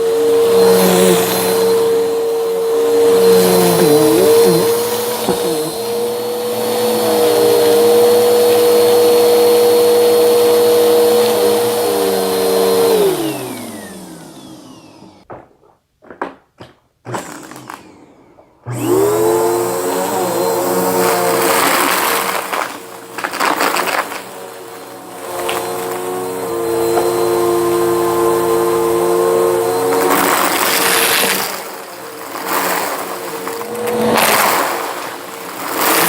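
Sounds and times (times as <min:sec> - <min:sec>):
vacuum cleaner motor running: 0:00.0 - 0:15.3, 0:17.1 - 0:36.0.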